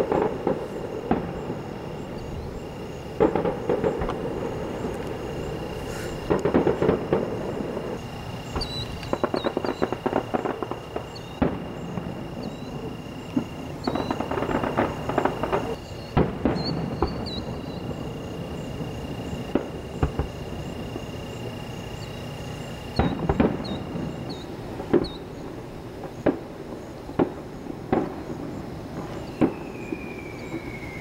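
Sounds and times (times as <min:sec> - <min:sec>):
firework crackling pops: 0:00.0 - 0:31.0
firework sharp bangs: 0:00.0 - 0:31.0.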